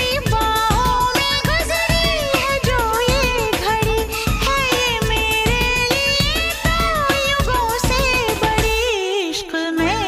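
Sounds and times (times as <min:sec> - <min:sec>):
steady drum beat: 0:00.0 - 0:09.0.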